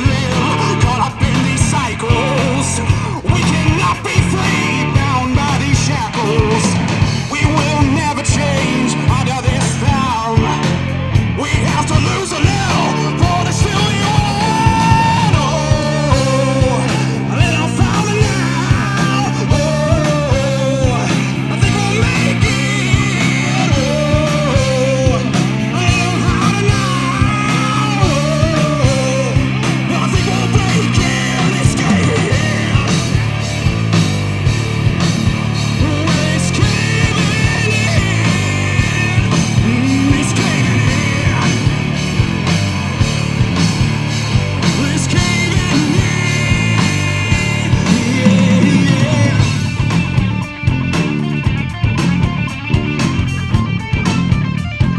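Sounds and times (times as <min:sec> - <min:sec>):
lead vocalist singing: 0:00.0 - 0:50.7
rock band playing live: 0:00.0 - 0:54.9.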